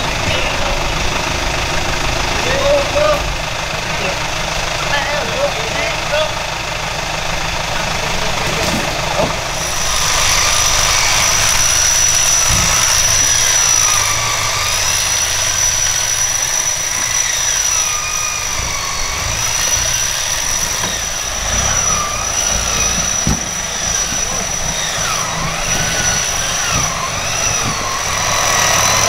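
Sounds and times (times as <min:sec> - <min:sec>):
steady high whine: 0:00.0 - 0:29.0
truck engine running: 0:00.0 - 0:29.0.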